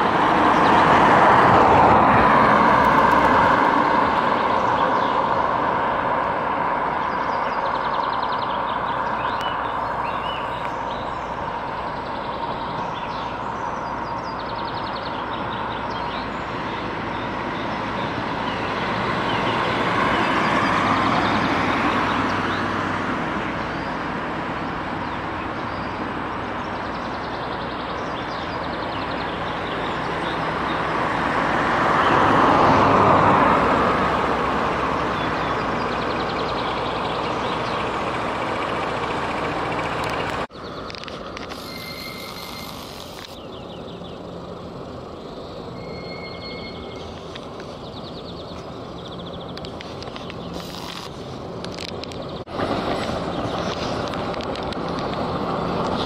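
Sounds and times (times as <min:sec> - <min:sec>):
steady roadway hum: 0:00.0 - 0:56.0
vehicle passing by: 0:00.0 - 0:56.0.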